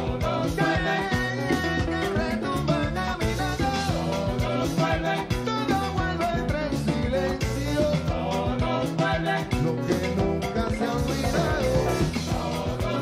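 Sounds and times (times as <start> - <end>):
bass line: 0.0 - 13.0
busy percussion: 0.0 - 13.0
live latin band: 0.0 - 13.0
man singing into microphone: 0.0 - 13.0.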